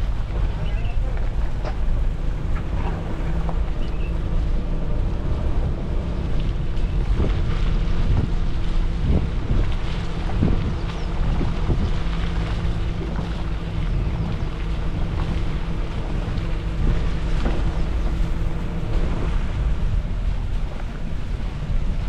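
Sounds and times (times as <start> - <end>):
car engine droning: 0.0 - 22.0
wind and road noise: 0.0 - 22.0.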